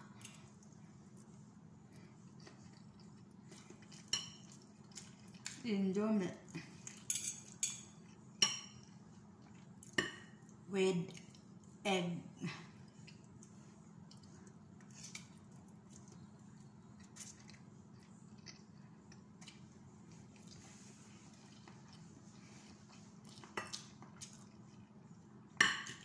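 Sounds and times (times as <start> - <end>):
quiet chewing: 0.1 - 5.7, 6.3 - 11.8, 12.5 - 26.0.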